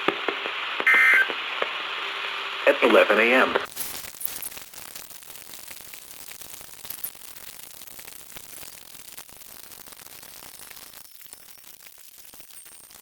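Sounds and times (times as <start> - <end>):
radio static hiss: 0.0 - 11.0
faint crackles and clicks: 0.0 - 13.0.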